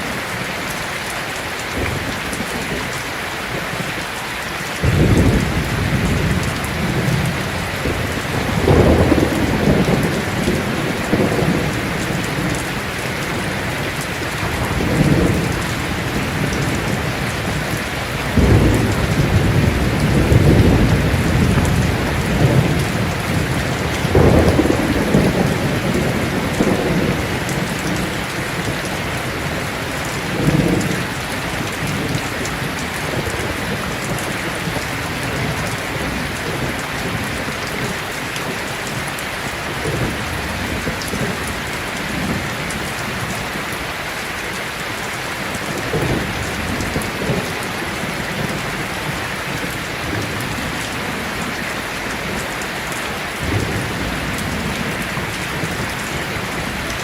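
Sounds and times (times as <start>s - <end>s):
heavy rain falling: 0.0s - 57.0s
thunder rumbling: 1.7s - 4.0s, 4.8s - 43.6s, 45.5s - 52.6s, 53.3s - 57.0s.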